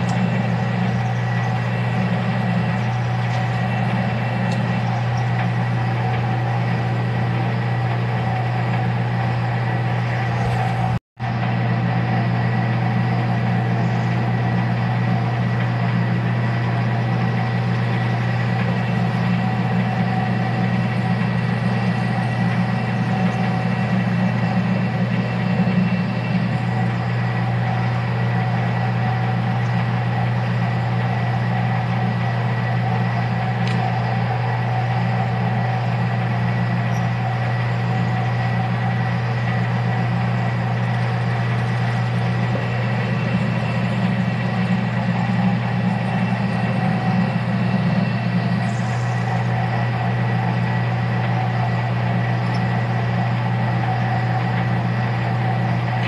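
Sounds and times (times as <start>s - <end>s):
metal lathe humming: 0.0s - 56.0s.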